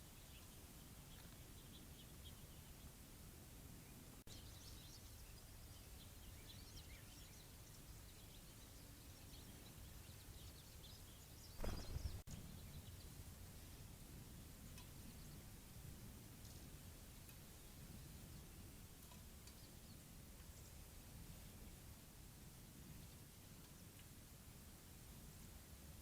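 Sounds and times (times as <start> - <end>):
songbirds chirping: 0.0 - 22.0
quiet outdoor hiss: 0.0 - 26.0.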